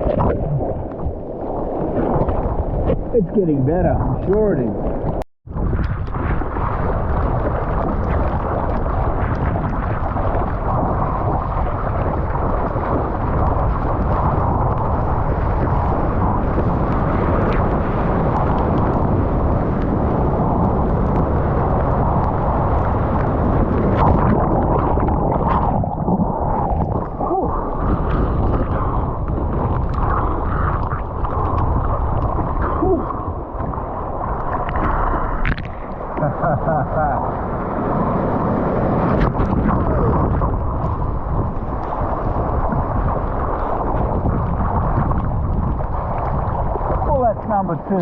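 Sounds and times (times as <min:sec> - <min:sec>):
water rushing and sloshing: 0:00.0 - 0:48.0
wind buffeting microphone: 0:00.0 - 0:48.0.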